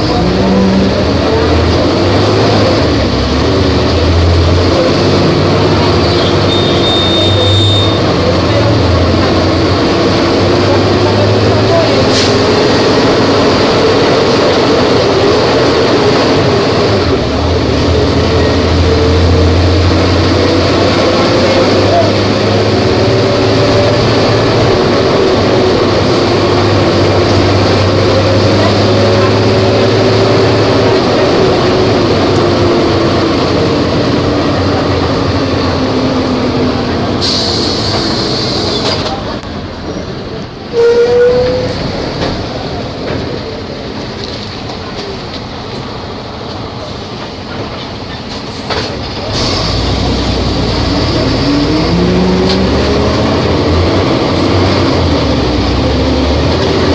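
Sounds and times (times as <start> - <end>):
bus diesel engine under load: 0.0 - 56.9.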